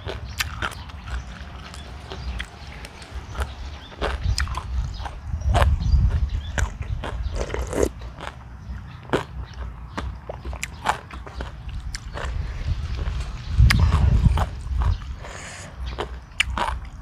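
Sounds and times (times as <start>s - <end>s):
person chewing crunchy food: 0.0s - 17.0s
wind rumble on microphone: 0.0s - 17.0s.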